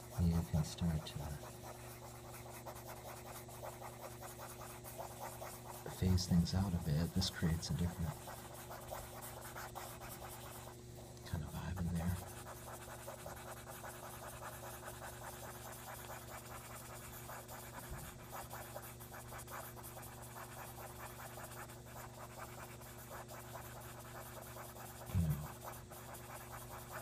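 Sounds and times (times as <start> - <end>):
cotton swab rubbing on paper: 0.0 - 10.8, 11.7 - 27.0
steady low hum: 0.0 - 27.0.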